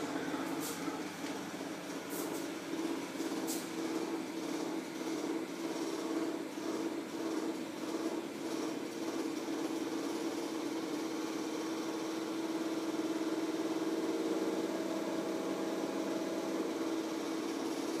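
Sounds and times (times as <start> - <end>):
aquarium pump humming: 0.0 - 18.0.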